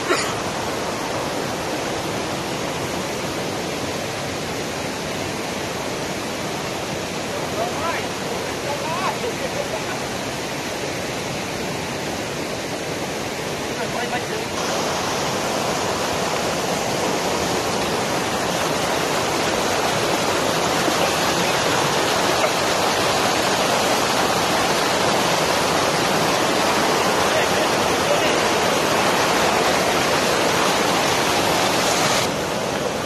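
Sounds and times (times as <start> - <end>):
stream cascading over rocks: 0.0 - 33.0.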